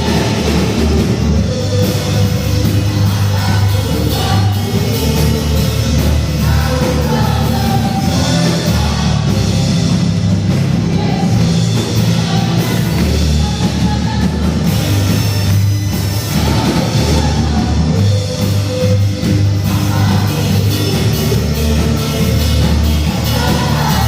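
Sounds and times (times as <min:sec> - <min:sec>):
rock band playing: 0:00.0 - 0:24.0
steady bass: 0:00.0 - 0:24.0.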